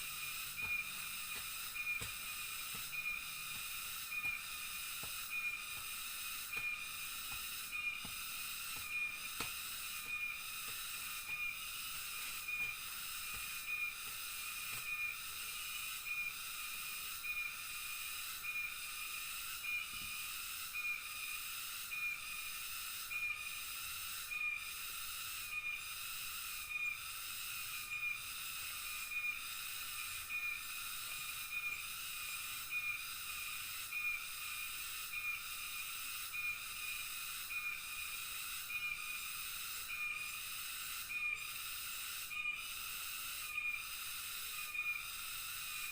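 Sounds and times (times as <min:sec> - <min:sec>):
insects shrill hiss: 0:00.0 - 0:45.9.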